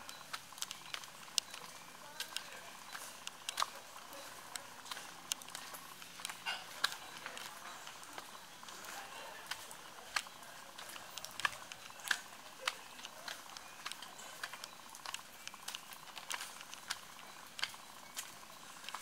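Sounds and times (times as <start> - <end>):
light rain pattering: 0.0 - 19.0.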